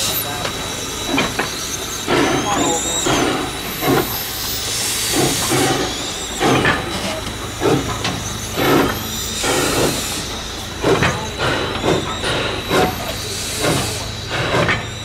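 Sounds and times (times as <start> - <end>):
steam hissing: 0.0 - 15.0
steam locomotive exhaust chuffing: 0.0 - 15.0.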